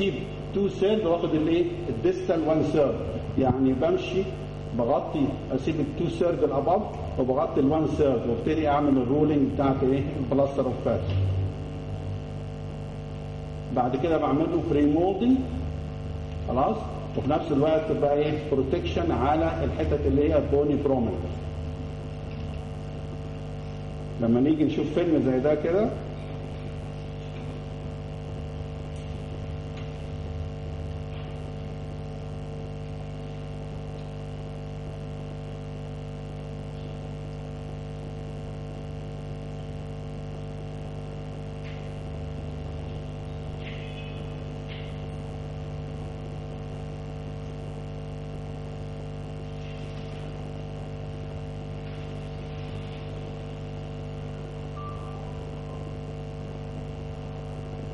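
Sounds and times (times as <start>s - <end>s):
electrical mains hum: 0.0s - 57.9s.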